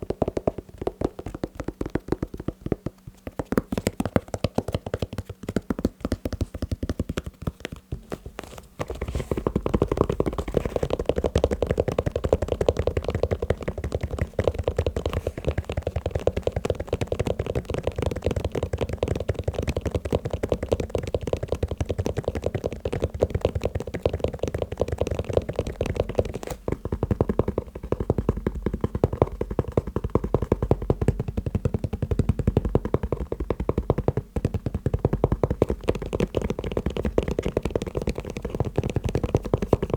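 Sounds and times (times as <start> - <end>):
fast tapping on a shoe: 0.0 - 39.9.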